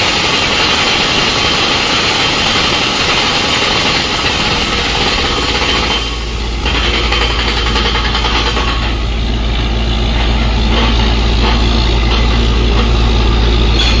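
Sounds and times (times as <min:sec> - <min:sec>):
broad noisy rush: 0:00.0 - 0:14.0
heavy engine drone: 0:00.0 - 0:14.0.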